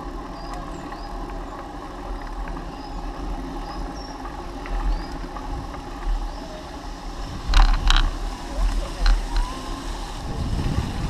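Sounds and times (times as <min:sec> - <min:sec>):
bicycle rumble and rattle: 0:00.0 - 0:11.0.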